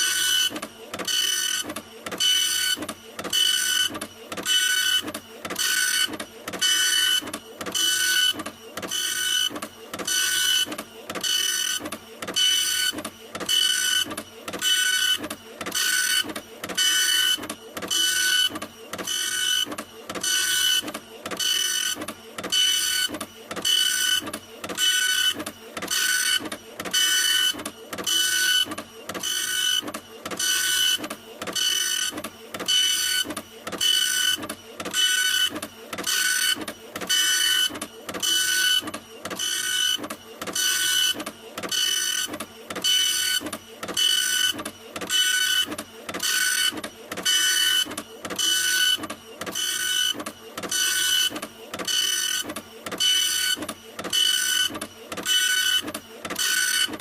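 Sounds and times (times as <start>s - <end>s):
printer mechanism whirring: 0.0s - 57.0s.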